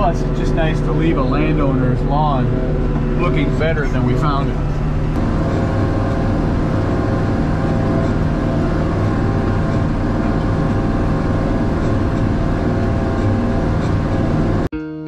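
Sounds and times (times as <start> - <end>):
tractor engine running under load: 0.0 - 14.7.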